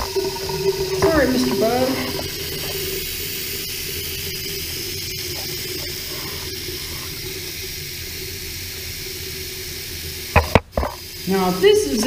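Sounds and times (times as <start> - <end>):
shower water running: 0.0 - 12.0.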